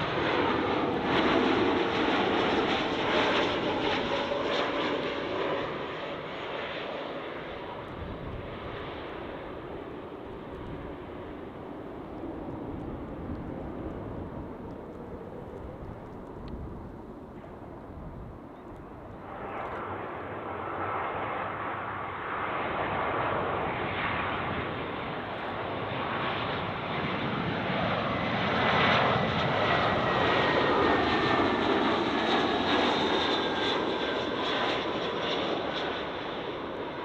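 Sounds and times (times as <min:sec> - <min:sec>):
jet engines passing low: 0:00.0 - 0:37.0.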